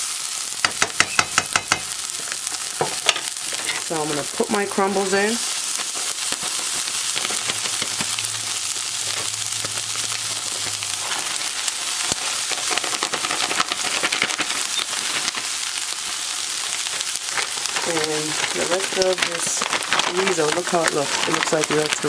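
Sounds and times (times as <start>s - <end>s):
food sizzling and crackling in pan: 0.0s - 22.0s.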